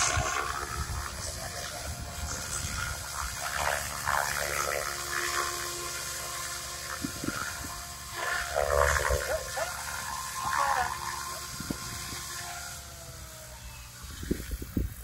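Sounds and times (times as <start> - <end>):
helicopter rotor whoosh: 0.0 - 15.0
motor whine: 0.0 - 15.0.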